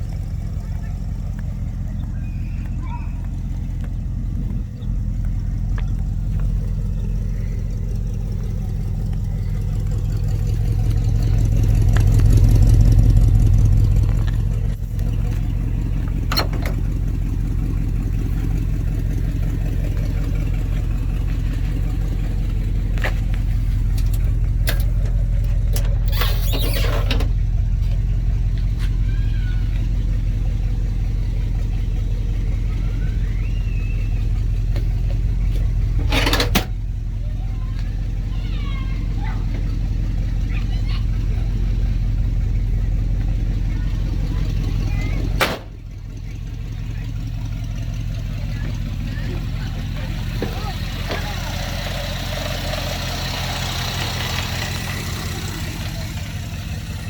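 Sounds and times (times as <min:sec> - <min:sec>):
pickup engine idling: 0:00.0 - 0:57.0.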